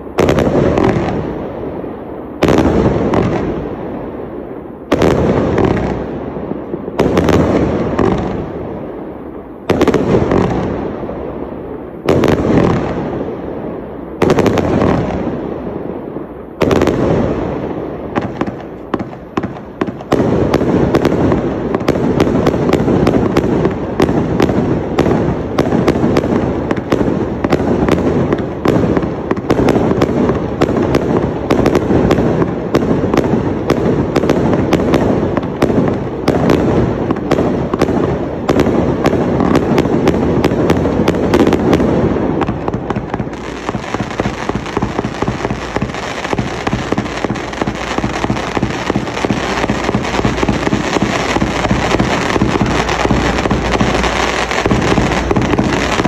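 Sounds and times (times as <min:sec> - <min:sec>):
fireworks bangs and crackle: 0:00.0 - 0:56.0.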